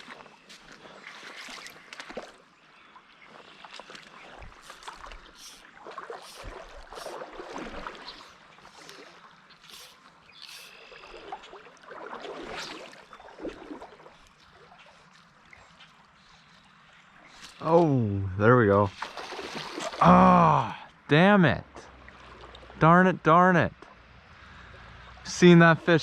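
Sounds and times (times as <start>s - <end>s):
stream water splashing and gurgling: 0.0s - 20.8s, 21.6s - 22.9s, 23.8s - 26.0s.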